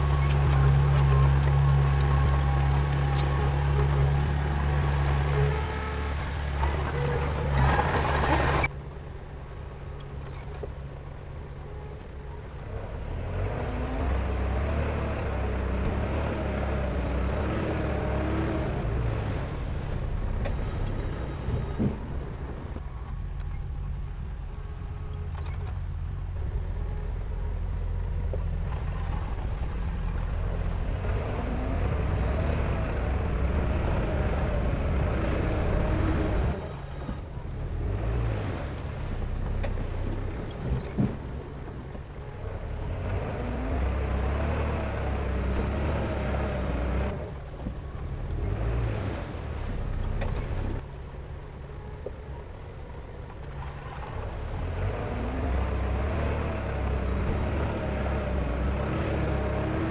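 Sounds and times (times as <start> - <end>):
diesel machinery engine: 0.0 - 59.9.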